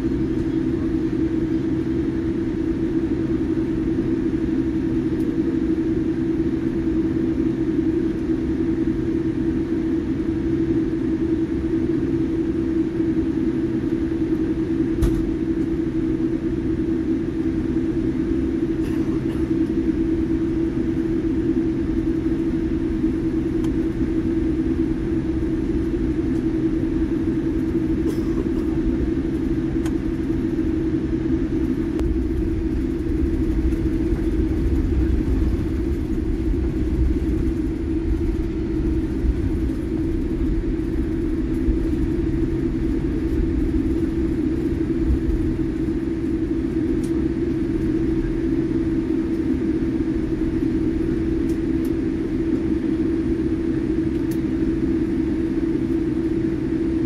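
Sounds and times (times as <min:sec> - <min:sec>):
aircraft engine hum: 0:00.0 - 0:57.0.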